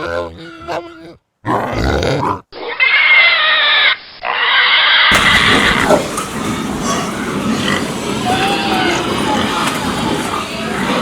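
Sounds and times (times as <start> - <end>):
pig calls: 0.0 - 11.0
pigs squealing: 0.0 - 11.0.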